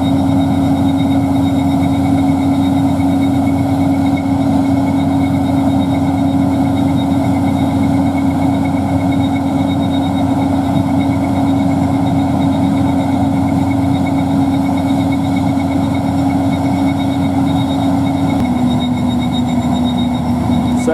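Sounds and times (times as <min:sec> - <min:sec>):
combine harvester drone: 0:00.0 - 0:20.9
machine whine: 0:00.0 - 0:20.9.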